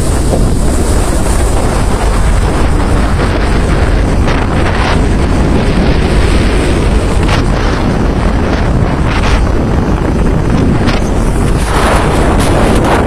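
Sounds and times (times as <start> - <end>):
breaking water surges: 0.0 - 13.0
rough sea rushing along hull: 0.0 - 13.0
wind buffeting microphone: 0.0 - 13.0.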